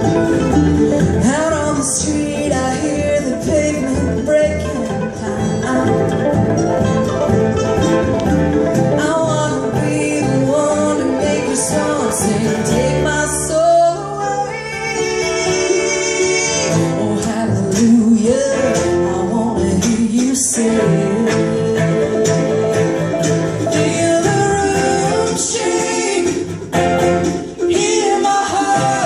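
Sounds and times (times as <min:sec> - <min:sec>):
acoustic guitars: 0:00.0 - 0:29.0
banjo: 0:00.0 - 0:29.0
fiddle: 0:00.0 - 0:29.0
upright bass: 0:00.0 - 0:29.0
woman singing: 0:01.0 - 0:06.5, 0:08.9 - 0:26.8, 0:27.5 - 0:29.0.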